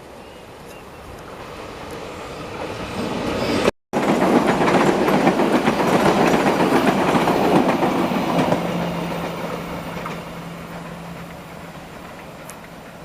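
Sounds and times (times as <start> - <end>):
train wheels clattering on rails: 0.6 - 13.0.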